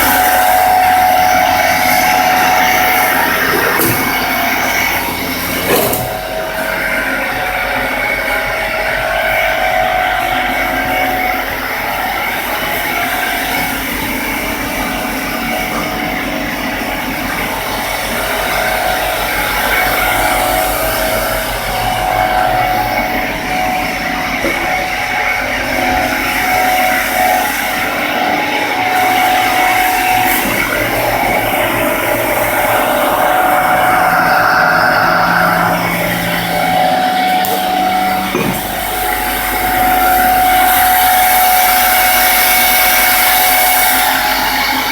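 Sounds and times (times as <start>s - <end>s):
milling machine whining: 0.0s - 44.9s.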